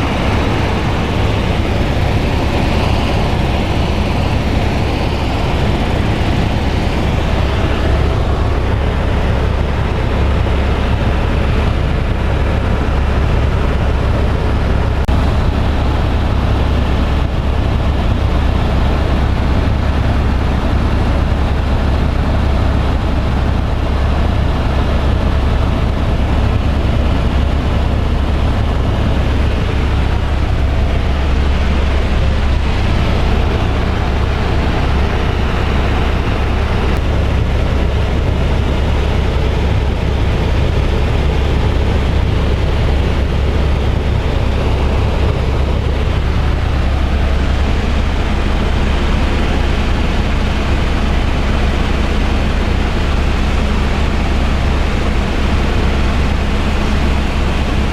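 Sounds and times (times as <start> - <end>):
helicopter cabin running noise: 0.0 - 57.9.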